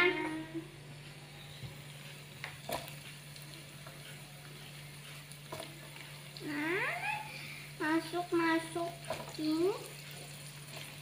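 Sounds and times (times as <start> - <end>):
food sizzling in a pan: 1.8 - 11.0.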